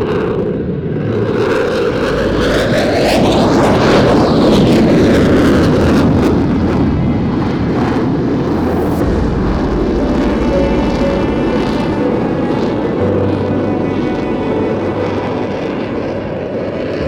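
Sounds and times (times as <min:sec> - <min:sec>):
military aircraft passing overhead: 0:01.0 - 0:17.0.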